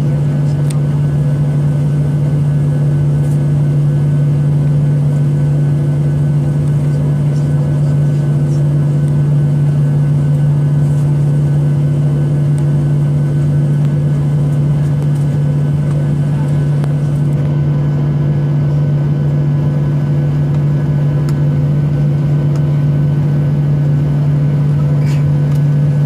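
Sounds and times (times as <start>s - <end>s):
airliner engine drone: 0.0s - 26.0s.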